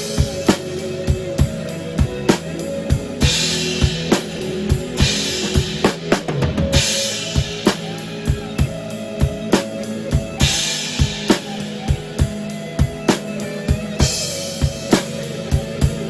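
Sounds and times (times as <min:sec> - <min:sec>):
drum kit beat: 0:00.0 - 0:16.0
pop band backing track: 0:00.0 - 0:16.0.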